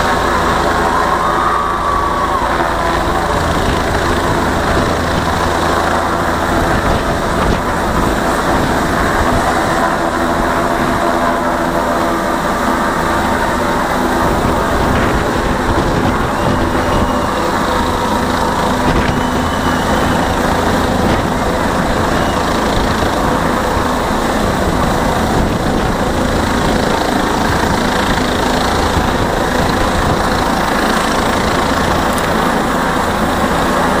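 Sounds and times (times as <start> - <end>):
helicopter hovering: 0.0 - 34.0.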